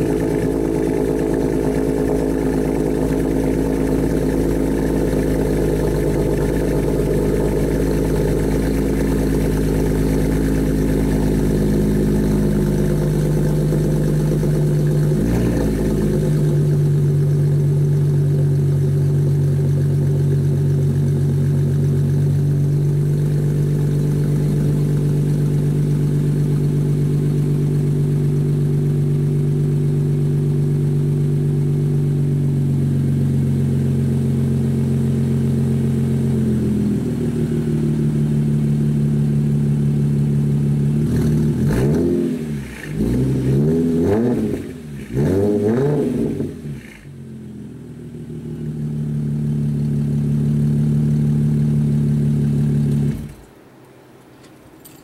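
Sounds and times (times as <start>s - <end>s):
car engine idling and revving: 0.0s - 53.6s.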